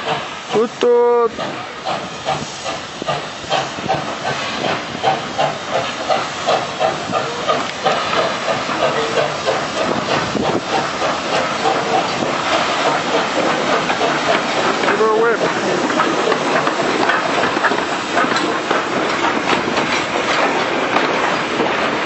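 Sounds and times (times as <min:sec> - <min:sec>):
steam hissing: 0:00.0 - 0:22.0
steam locomotive chuffing: 0:00.0 - 0:22.0.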